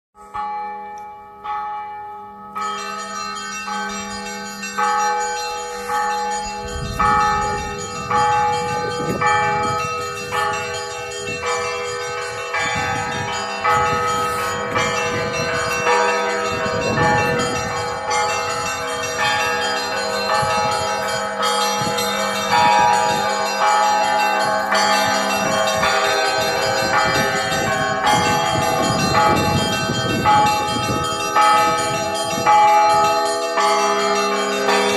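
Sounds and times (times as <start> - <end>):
church bells ringing: 0.2 - 34.9
deep bell tone: 0.2 - 34.9.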